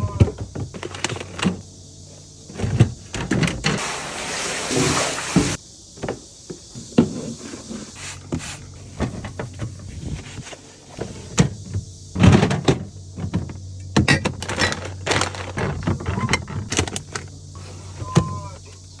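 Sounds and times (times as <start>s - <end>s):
refrigerator hum: 0.0s - 19.0s.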